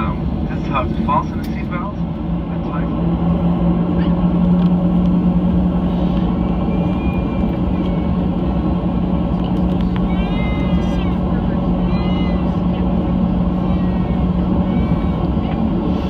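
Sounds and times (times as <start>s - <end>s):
aircraft cabin drone: 0.0s - 16.0s.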